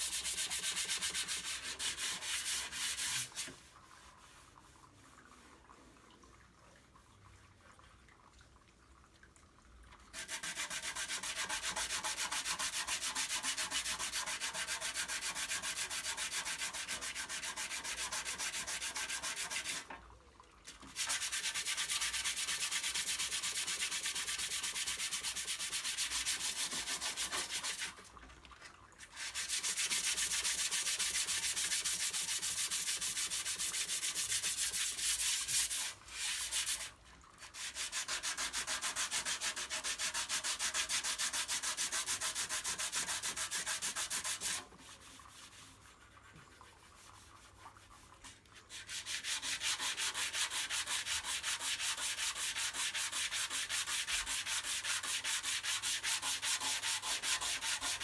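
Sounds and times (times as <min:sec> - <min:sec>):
sandpaper rasping on filler: 0:00.0 - 0:05.5, 0:10.2 - 0:19.8, 0:21.0 - 0:28.0, 0:29.2 - 0:36.9, 0:37.5 - 0:44.7, 0:45.4 - 0:58.0.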